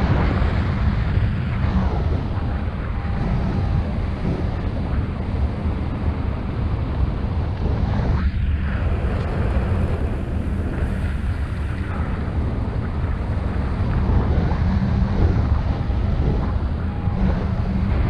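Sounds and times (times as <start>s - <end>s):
loud wind rush on microphone: 0.0s - 18.0s.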